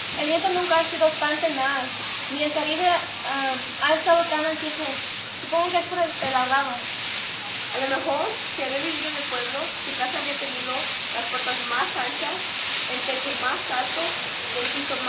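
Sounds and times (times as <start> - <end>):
steady loud hiss: 0.0 - 15.0.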